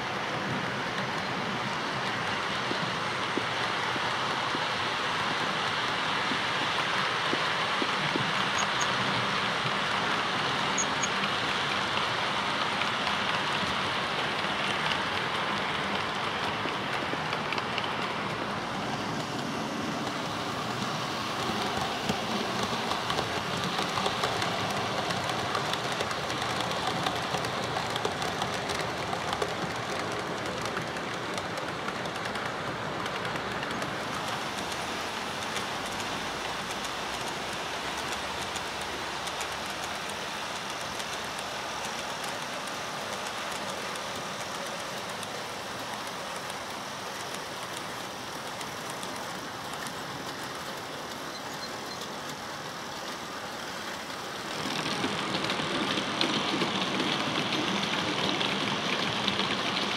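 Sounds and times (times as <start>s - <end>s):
model train wheels clicking over rail joints: 0.0s - 59.9s.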